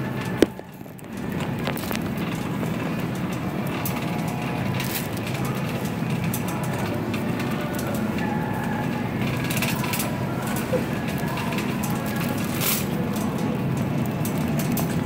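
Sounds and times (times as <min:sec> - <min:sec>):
shopping cart wheels rumbling: 0:00.0 - 0:15.0.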